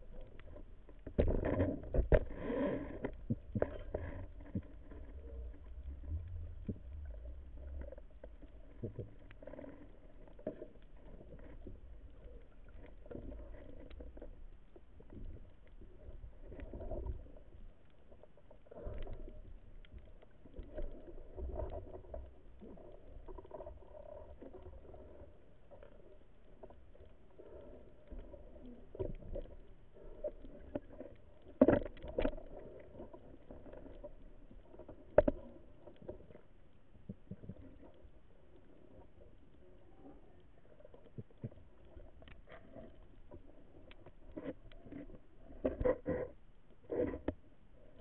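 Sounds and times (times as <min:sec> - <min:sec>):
muffled underwater water movement: 0:00.0 - 0:48.0.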